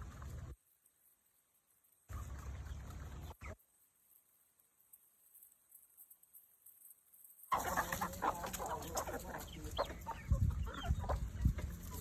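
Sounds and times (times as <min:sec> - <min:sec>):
chickens clucking: 0:00.0 - 0:00.5, 0:02.1 - 0:12.0.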